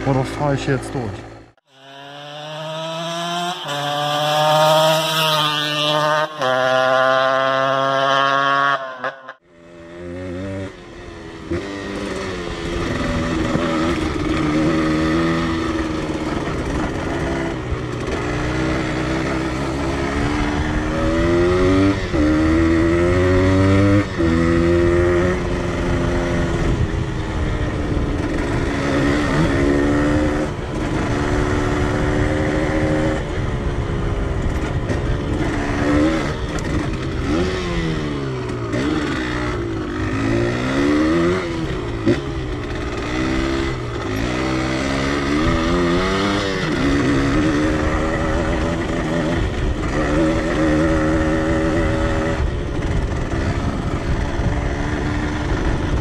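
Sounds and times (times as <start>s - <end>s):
two-stroke motorcycle engine accelerating: 0.0s - 56.0s.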